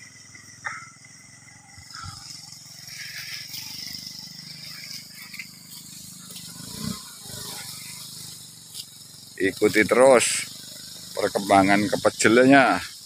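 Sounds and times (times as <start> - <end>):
distant motorcycle engine: 0.0 - 13.0
high drone of insects: 0.0 - 13.0.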